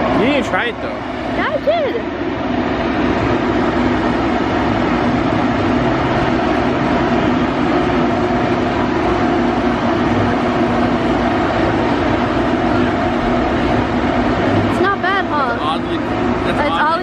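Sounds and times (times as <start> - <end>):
loud mechanical hum and drone: 0.0 - 17.0.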